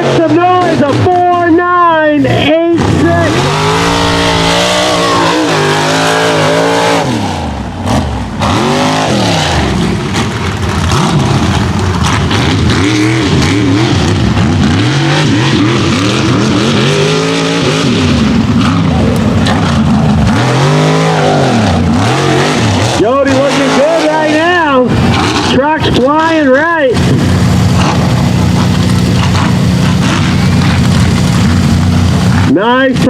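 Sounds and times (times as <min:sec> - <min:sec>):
truck engine revving: 0:02.2 - 0:32.6.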